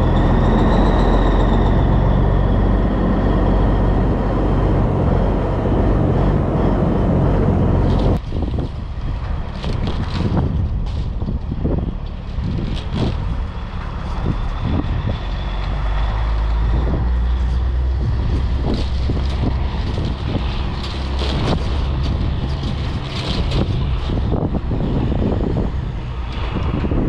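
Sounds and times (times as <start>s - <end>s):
diesel truck engine rumbling: 0.0s - 27.0s
wind buffeting microphone: 0.0s - 27.0s.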